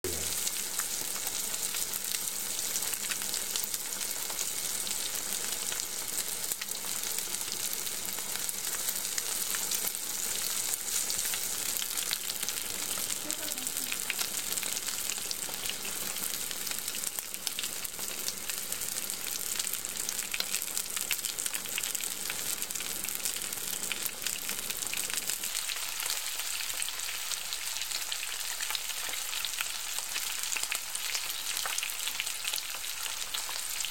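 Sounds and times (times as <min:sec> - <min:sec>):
steak sizzling in a frying pan: 0:00.3 - 0:33.9.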